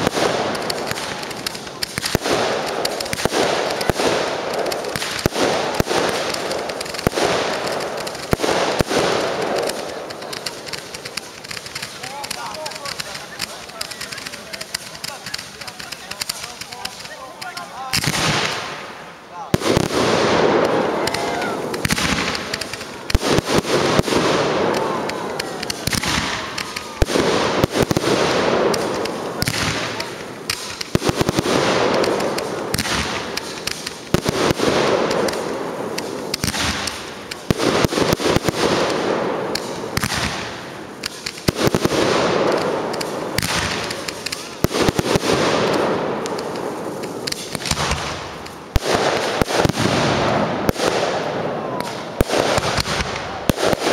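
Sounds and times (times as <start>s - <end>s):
fireworks bangs and crackling: 0.0s - 53.9s
fireworks whistling: 0.0s - 53.9s.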